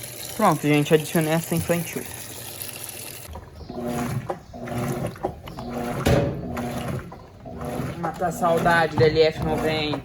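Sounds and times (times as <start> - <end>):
washing machine agitator humming: 0.0 - 10.0.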